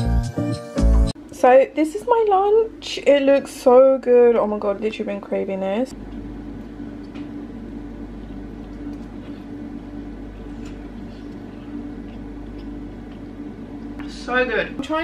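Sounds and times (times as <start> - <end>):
low steady hum: 1.2 - 15.0.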